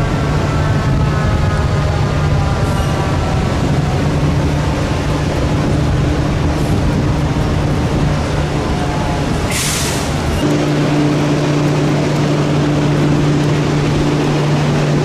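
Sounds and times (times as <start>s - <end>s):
diesel engine low rumble: 0.0s - 15.0s.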